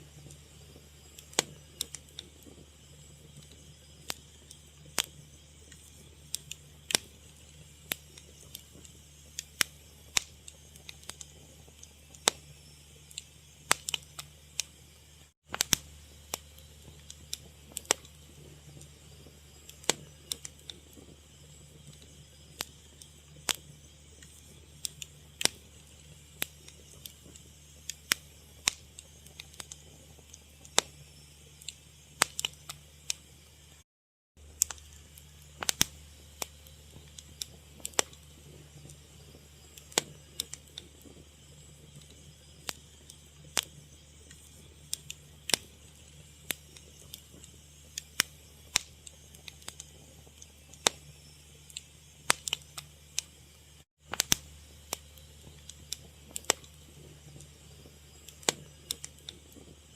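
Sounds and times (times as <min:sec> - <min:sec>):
low steady hum: 0:00.0 - 0:33.8, 0:34.4 - 0:59.9
wood fire crackling: 0:00.0 - 0:33.8, 0:34.4 - 0:59.9.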